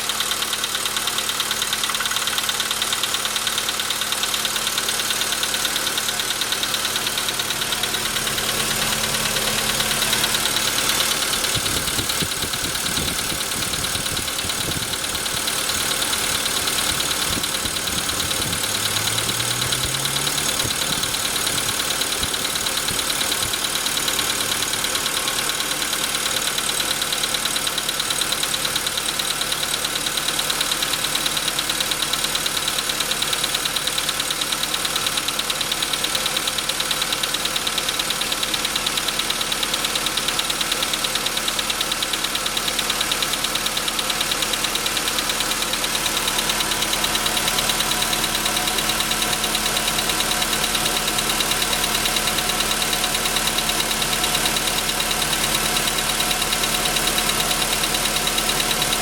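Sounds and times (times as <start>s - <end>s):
car engine idling: 0.0s - 59.0s
rapid engine knock: 0.0s - 59.0s.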